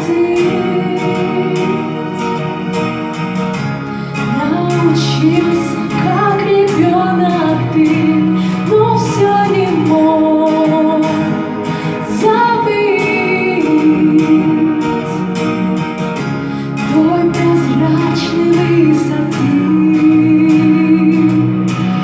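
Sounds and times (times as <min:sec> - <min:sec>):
woman singing slow song: 0:00.0 - 0:03.2, 0:03.9 - 0:22.0
guitar accompaniment: 0:00.0 - 0:22.0.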